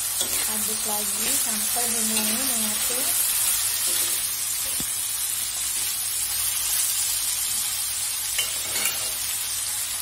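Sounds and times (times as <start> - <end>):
oil sizzling in a wok: 0.0 - 10.0.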